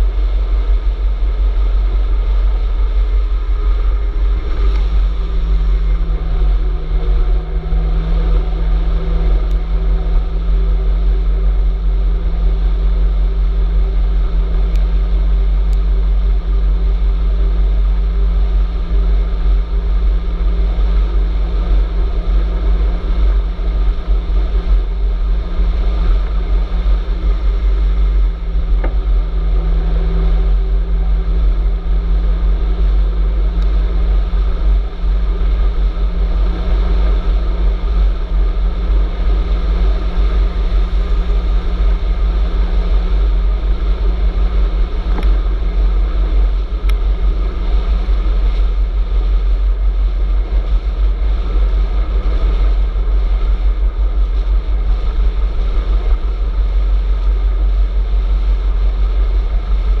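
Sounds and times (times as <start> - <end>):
wind rush on microphone: 0.0 - 60.0.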